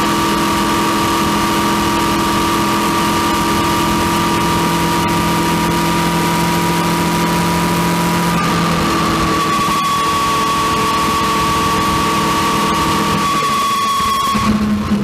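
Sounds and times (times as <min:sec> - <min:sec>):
drivetrain whine: 0:00.0 - 0:15.0
motorcycle engine running: 0:00.0 - 0:15.0.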